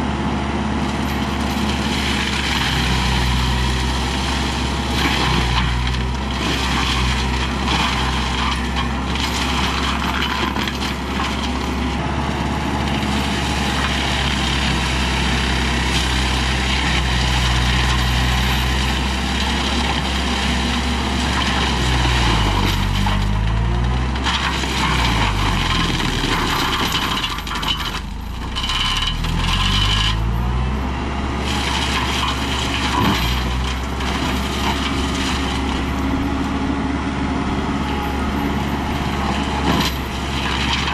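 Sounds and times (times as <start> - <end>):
mulcher rotor shredding wood: 0.0 - 40.9
tractor engine running hard: 0.0 - 40.9.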